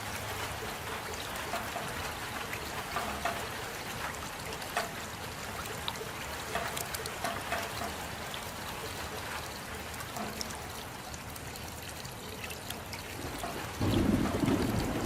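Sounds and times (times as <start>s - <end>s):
rain: 0.0s - 15.0s
water trickling and pouring: 0.0s - 15.0s.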